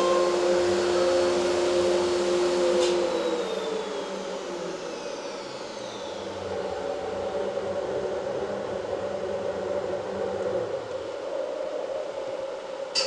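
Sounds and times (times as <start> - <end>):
router spindle whine: 0.0 - 12.8.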